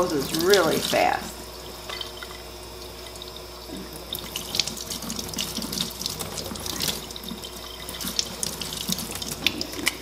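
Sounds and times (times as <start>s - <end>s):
faucet running into steel sink: 0.0s - 10.0s.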